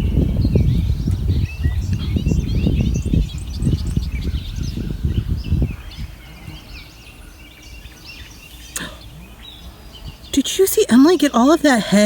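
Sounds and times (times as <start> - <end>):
small birds chirping: 0.0 - 12.0
wind buffeting microphone: 0.0 - 12.0.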